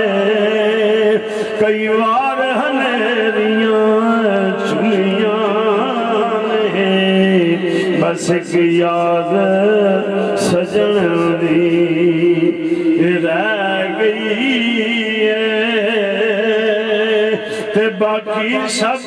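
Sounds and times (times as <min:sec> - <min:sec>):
man singing through loudspeakers: 0:00.0 - 0:19.0.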